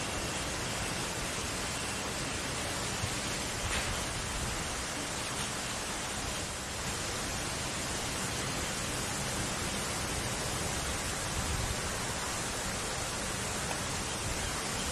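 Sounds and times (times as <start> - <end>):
steady broadband hiss: 0.0 - 14.9.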